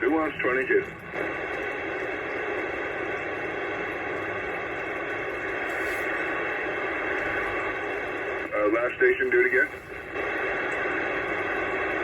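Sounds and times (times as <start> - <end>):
radio static hissing: 0.1 - 12.0.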